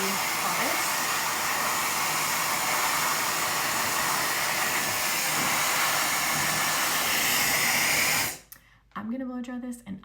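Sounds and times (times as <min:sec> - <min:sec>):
hair dryer blowing air: 0:00.0 - 0:08.5.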